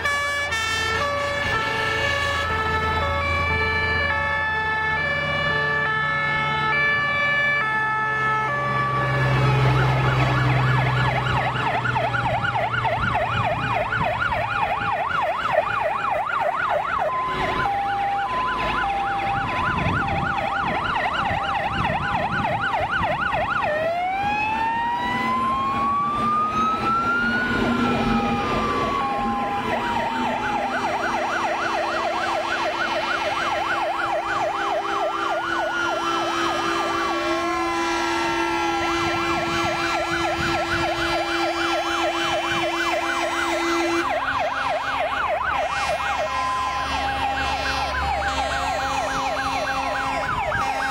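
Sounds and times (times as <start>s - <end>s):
fire engine sirens: 0.0s - 50.9s
truck engines rumbling: 0.0s - 50.9s.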